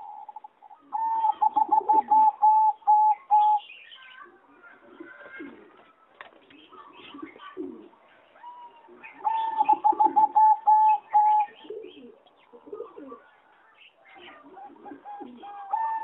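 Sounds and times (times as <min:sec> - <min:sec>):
dove cooing: 0:00.0 - 0:03.7, 0:04.7 - 0:05.8, 0:06.6 - 0:13.3, 0:14.1 - 0:16.0
other birds chirping: 0:00.0 - 0:16.0.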